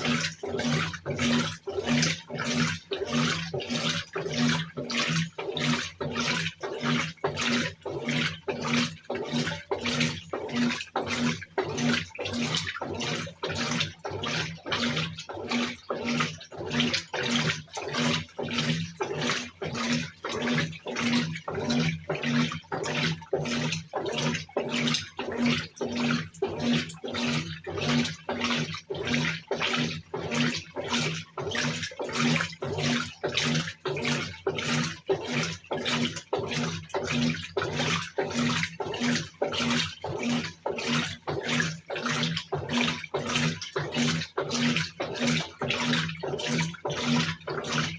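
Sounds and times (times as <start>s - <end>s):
pulsing motor hum: 0.0s - 47.9s
washing machine water sloshing: 0.0s - 47.9s.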